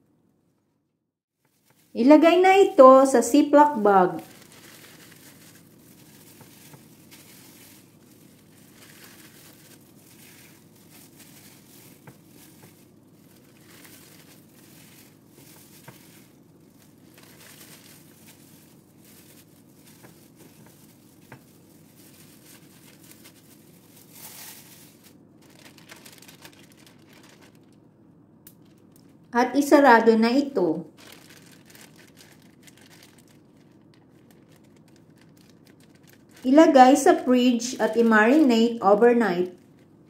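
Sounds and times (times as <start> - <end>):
plastic bag rustling: 1.4 - 27.8, 28.6 - 29.3, 30.9 - 40.0.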